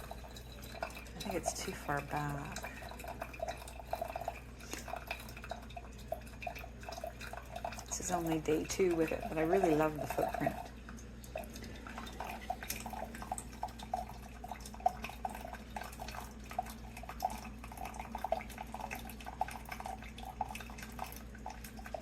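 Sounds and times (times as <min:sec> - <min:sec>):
faint steady hum: 0:00.0 - 0:22.0
water dripping into a cup: 0:00.0 - 0:22.0.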